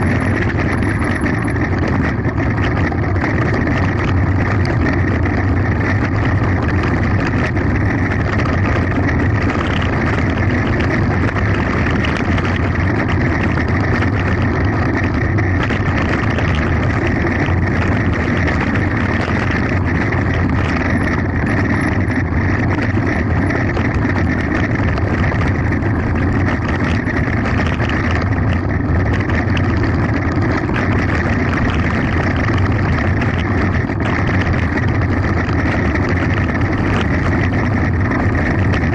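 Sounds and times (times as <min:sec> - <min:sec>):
bike tyres on gravel: 0:00.0 - 0:38.9.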